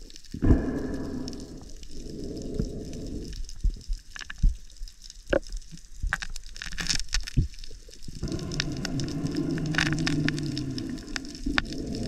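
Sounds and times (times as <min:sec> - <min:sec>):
underwater clicks and crackles: 0:00.0 - 0:12.0
underwater rush of water: 0:00.0 - 0:12.0.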